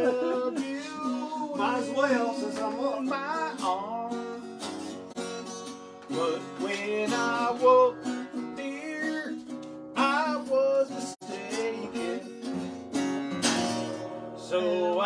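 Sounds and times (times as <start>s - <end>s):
acoustic guitars strummed: 0.0s - 15.0s.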